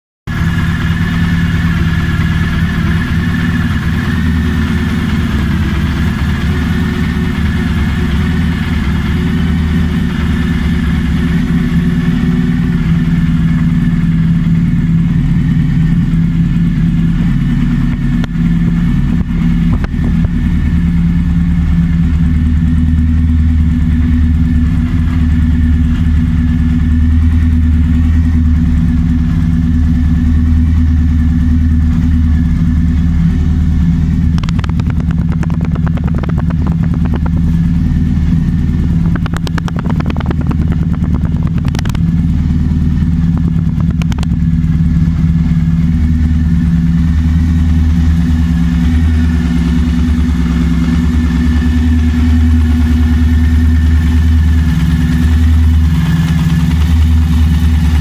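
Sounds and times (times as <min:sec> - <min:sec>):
motorcycle engine idling: 0:00.3 - 0:58.0.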